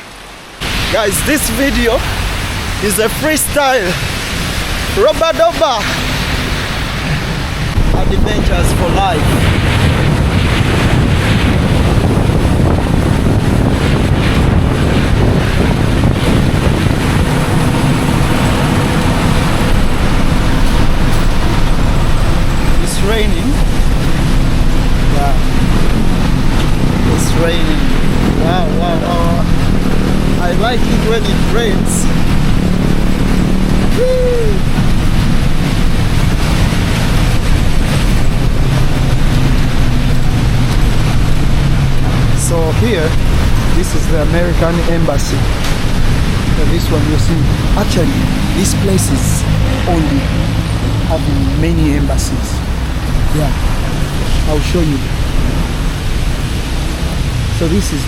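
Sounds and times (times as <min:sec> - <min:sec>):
moving vehicle rumble: 0:00.0 - 0:58.0
rain hissing on wet road: 0:00.0 - 0:58.0
wind buffeting microphone: 0:00.0 - 0:58.0.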